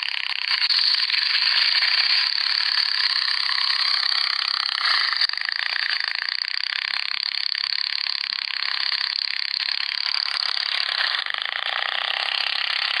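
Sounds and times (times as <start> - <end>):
small engine buzzing at high speed: 0.0 - 13.0.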